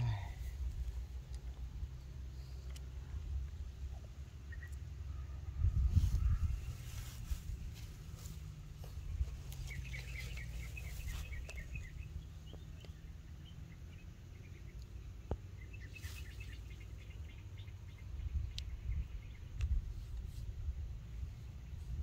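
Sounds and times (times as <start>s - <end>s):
birds chirping: 0.0s - 20.0s
low steady rumble: 0.0s - 22.0s.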